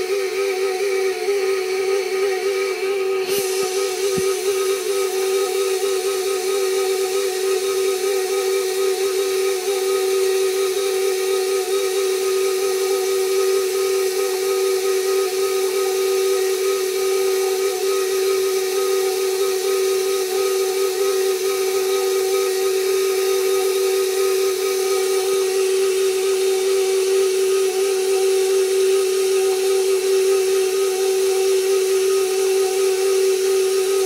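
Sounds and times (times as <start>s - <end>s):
stand mixer motor whine: 0.0s - 34.0s.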